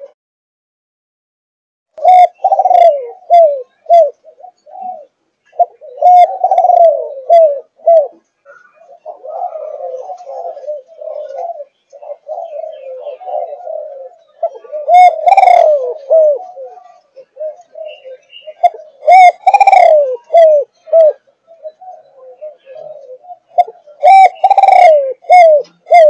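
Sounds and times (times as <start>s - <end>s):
dove cooing: 2.0s - 26.0s.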